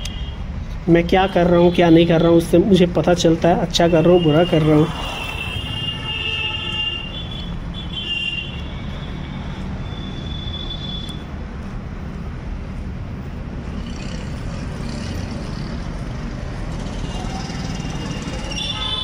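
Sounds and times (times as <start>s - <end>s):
rumble of passing vehicles: 0.0s - 19.0s.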